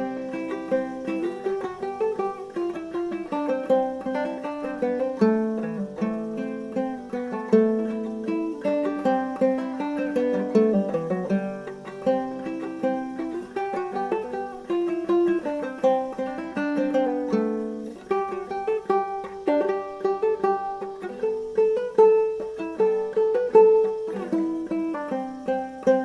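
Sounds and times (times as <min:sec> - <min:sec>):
plucked string instrument music: 0:00.0 - 0:26.0.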